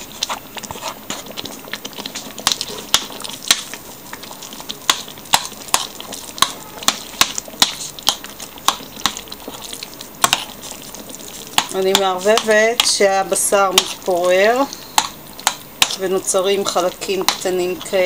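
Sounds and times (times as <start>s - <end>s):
sauce sizzling: 0.0s - 18.0s.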